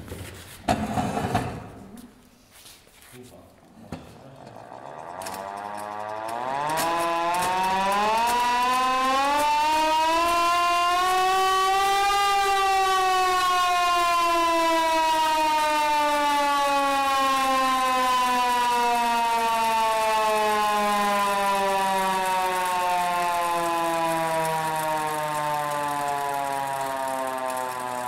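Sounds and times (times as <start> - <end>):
hand-cranked siren wailing: 4.6 - 28.0.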